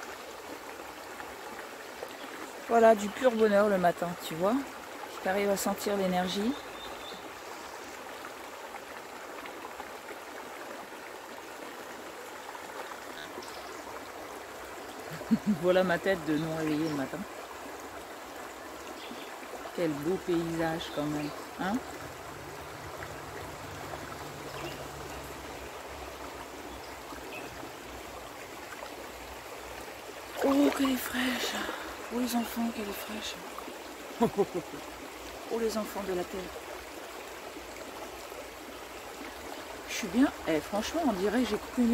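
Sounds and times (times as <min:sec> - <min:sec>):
stream running over stones: 0:00.0 - 0:41.9
water rushing over rocks: 0:00.0 - 0:41.9.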